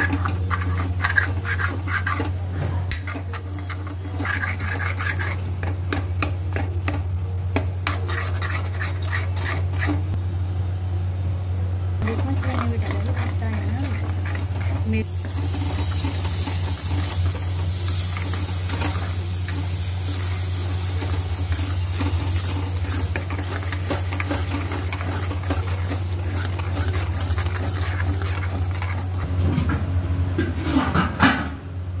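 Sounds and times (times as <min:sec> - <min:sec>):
spoon scraping metal pan: 0:00.0 - 0:10.1, 0:12.0 - 0:29.3
steady low hum: 0:00.0 - 0:31.0.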